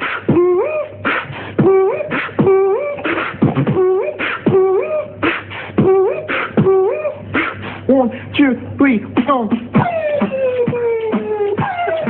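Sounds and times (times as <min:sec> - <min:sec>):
beatboxing kick and snare loop: 0:00.0 - 0:07.9, 0:09.1 - 0:12.0.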